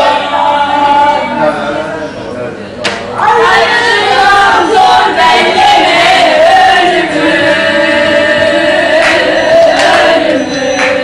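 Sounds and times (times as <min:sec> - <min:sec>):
people singing together: 0:00.0 - 0:02.2, 0:03.1 - 0:11.0.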